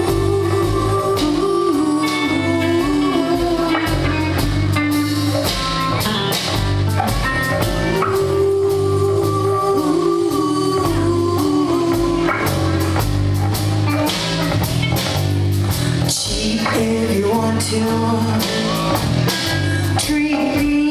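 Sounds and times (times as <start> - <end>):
blues-rock band playing: 0.0 - 20.9.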